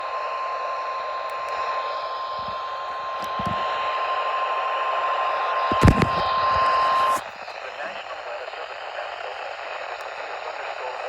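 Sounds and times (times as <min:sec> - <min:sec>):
radio static hiss: 0:01.1 - 0:11.0.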